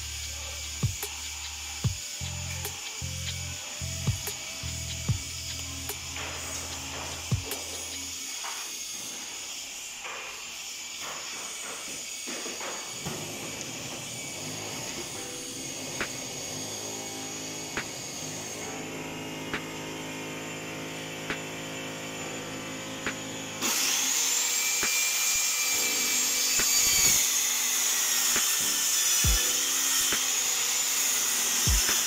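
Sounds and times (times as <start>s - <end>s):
circular saw cutting plywood: 0.0s - 32.0s.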